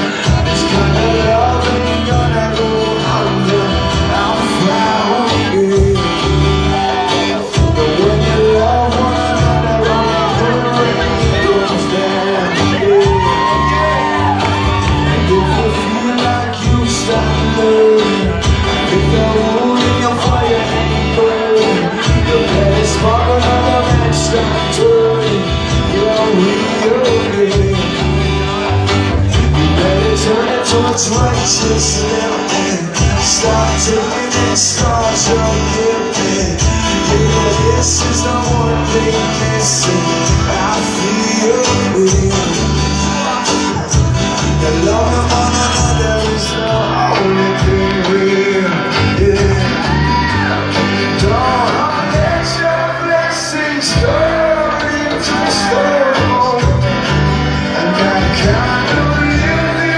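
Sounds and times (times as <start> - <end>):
man singing: 0.0 - 59.9
strummed acoustic guitar: 0.0 - 59.9.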